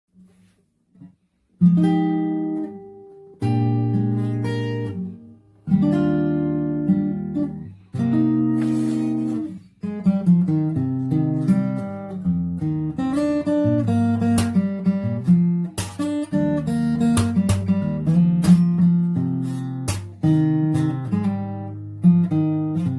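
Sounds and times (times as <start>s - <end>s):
acoustic guitar playing: 0.2s - 22.9s.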